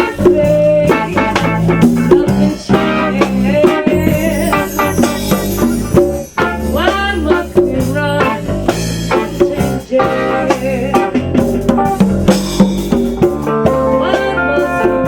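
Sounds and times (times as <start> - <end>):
drum kit: 0.0 - 15.0
guitar: 0.0 - 15.0.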